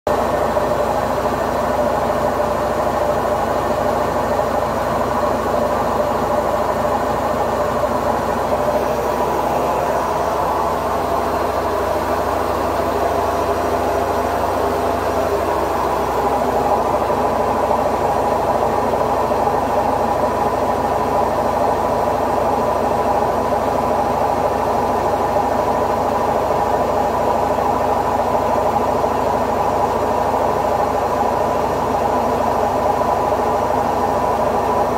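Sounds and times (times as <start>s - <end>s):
washing machine spin cycle: 0.1s - 34.9s.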